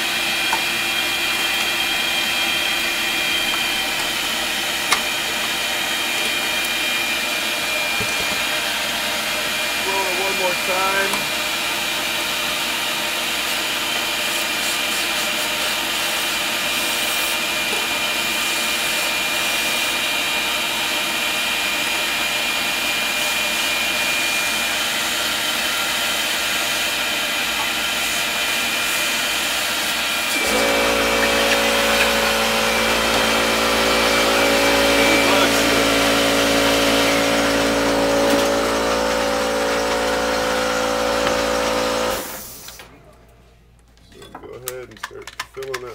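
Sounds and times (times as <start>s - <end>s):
vacuum running: 0.0s - 43.0s.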